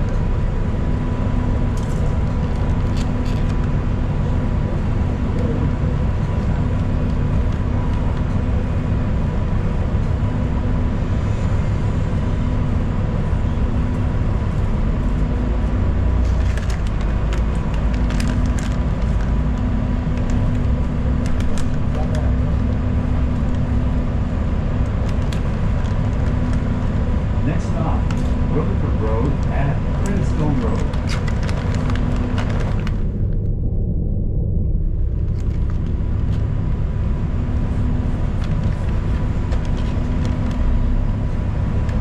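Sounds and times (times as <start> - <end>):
bus engine drone: 0.0 - 42.0.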